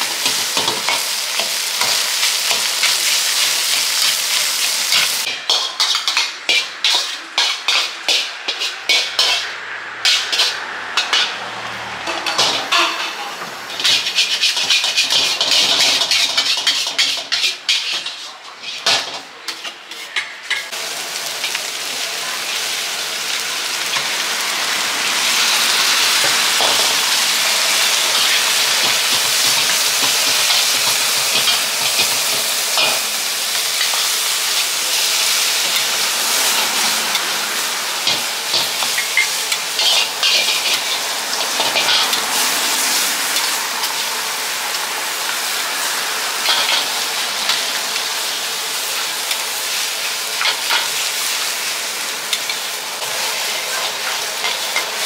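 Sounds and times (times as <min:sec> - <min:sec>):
metal spatula scraping wok: 0:00.0 - 0:20.8, 0:21.4 - 0:55.0
noodles sizzling in a wok: 0:00.0 - 0:55.0.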